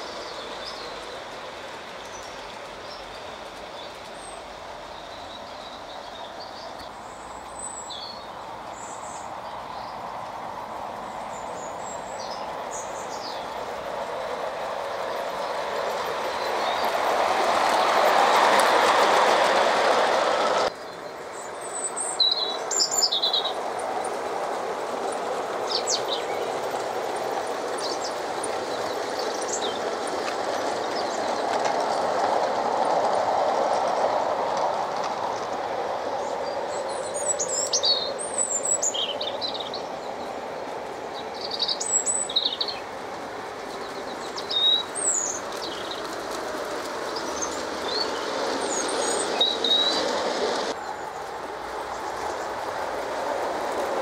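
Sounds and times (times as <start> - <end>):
birds chirping: 0.0 - 54.0
model train wheels rolling on rails: 0.0 - 54.0.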